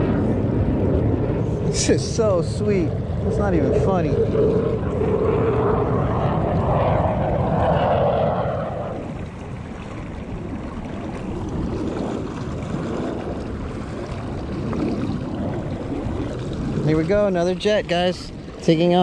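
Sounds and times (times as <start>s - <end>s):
jet airliner rumble: 0.0s - 19.0s
wind noise on microphone: 0.0s - 19.0s.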